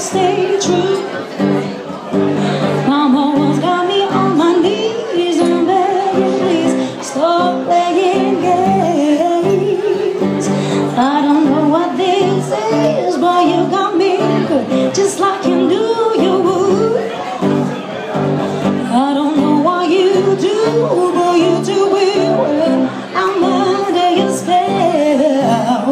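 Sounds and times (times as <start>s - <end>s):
woman singing into a microphone: 0.0s - 1.7s, 2.4s - 17.7s, 18.6s - 25.9s
strummed acoustic guitar: 0.0s - 25.9s.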